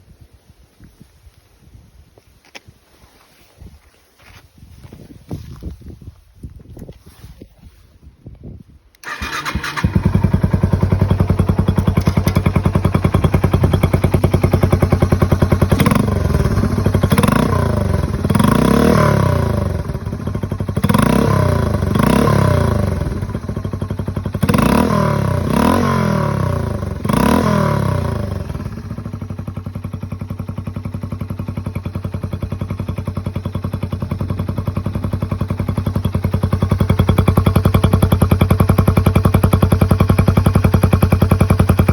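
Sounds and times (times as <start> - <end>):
motorcycle engine idling and revving: 3.7 - 8.0, 9.0 - 41.9.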